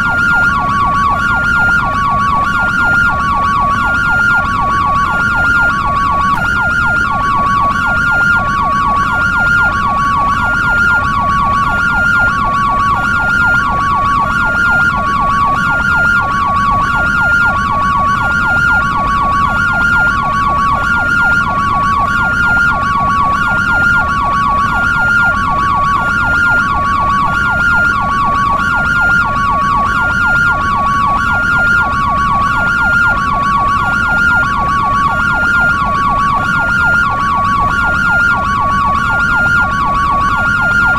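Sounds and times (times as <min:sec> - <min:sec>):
two-tone ambulance siren: 0:00.0 - 0:40.9
yelp siren wail: 0:00.0 - 0:40.9.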